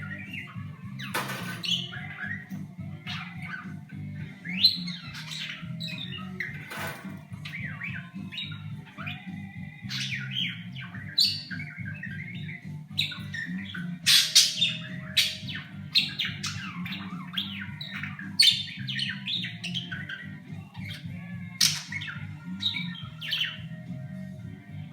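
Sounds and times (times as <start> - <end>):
budgerigar chattering and squawking: 0.0 - 23.9.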